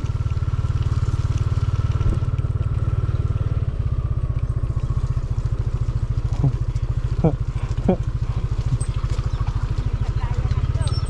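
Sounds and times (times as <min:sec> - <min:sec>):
motor scooter engine running: 0:00.0 - 0:11.0.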